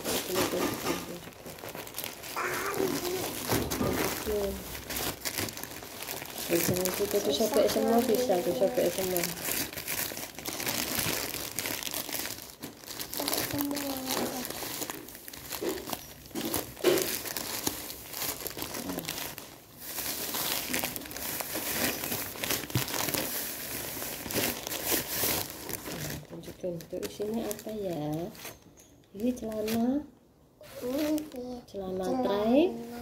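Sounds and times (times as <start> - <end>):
plastic bag crinkling and rustling: 0.0 - 33.0.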